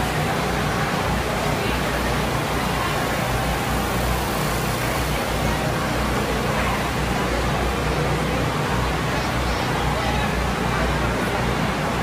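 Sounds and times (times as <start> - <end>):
crowd voices: 0.0 - 12.0.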